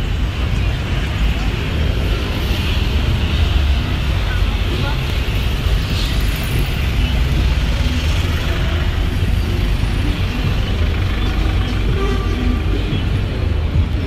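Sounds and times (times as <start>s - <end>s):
buses and cars passing: 0.0s - 14.0s
low traffic rumble: 0.0s - 14.0s.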